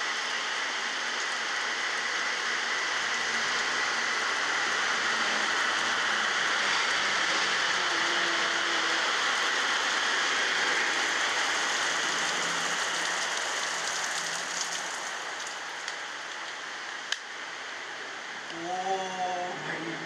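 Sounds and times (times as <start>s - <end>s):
jet engine taking off: 0.0s - 18.4s
heavy rain: 0.0s - 20.0s.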